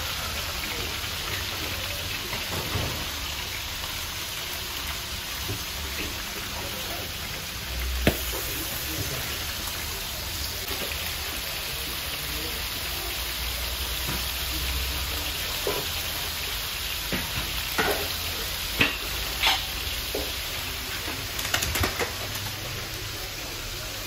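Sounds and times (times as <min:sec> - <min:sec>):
food sizzling over charcoal: 0:00.0 - 0:24.0.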